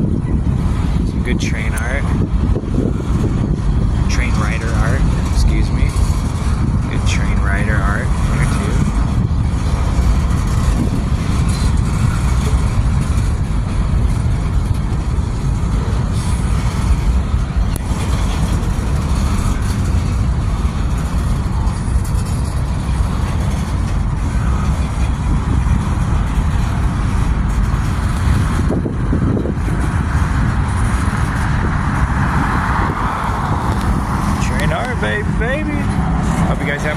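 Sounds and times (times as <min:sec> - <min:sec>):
freight train wheels rumbling: 0:00.0 - 0:36.9.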